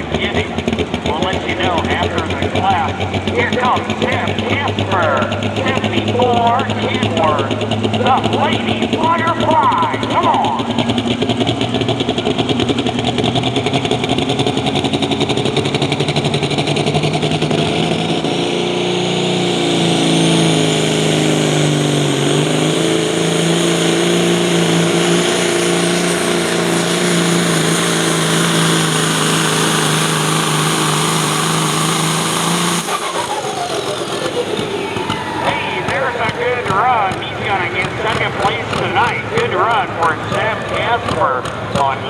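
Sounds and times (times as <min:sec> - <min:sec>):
truck diesel engine at full power: 0:00.0 - 0:42.0.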